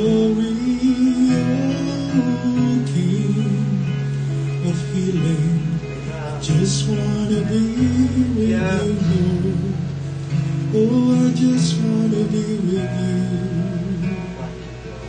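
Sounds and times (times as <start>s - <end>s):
man singing: 0.0s - 15.0s
strummed acoustic guitar: 0.0s - 15.0s.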